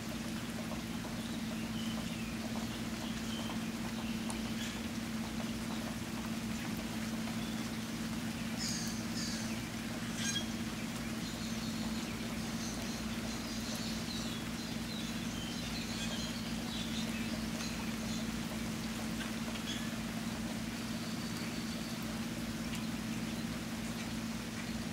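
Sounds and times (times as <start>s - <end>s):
steady rainfall: 0.0s - 24.9s.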